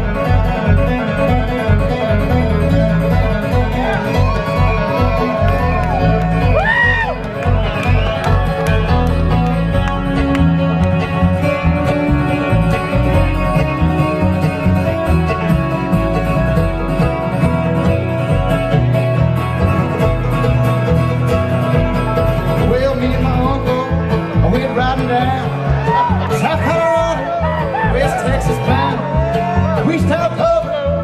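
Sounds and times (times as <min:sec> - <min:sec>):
picked acoustic guitar: 0:00.0 - 0:31.0
upright bass: 0:00.0 - 0:31.0.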